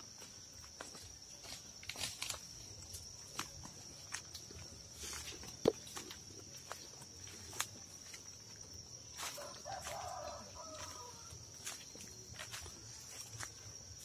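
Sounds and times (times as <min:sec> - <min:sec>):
footsteps on leaf litter and twigs: 0:00.0 - 0:14.0
high insect drone: 0:00.0 - 0:14.0.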